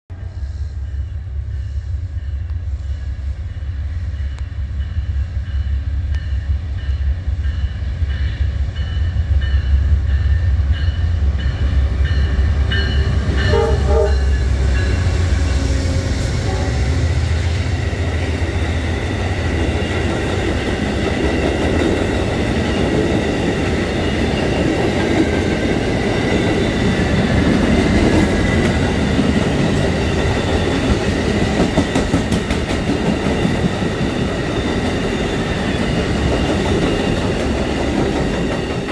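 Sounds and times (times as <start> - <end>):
diesel locomotive engine rumble: 0.1 - 38.9
high wheel-on-rail sound: 0.1 - 38.9.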